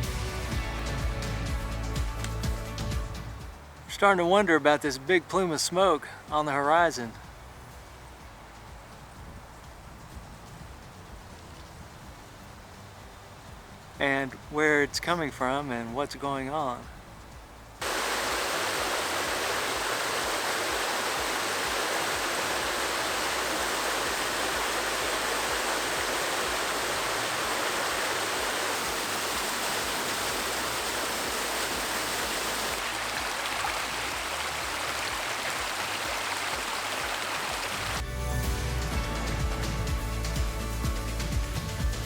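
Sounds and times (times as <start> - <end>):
creek water flowing: 0.0 - 38.0.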